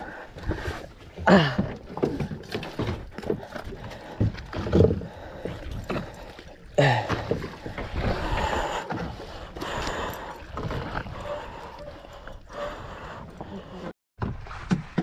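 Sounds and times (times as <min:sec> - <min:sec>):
water splashing: 0:00.1 - 0:13.7.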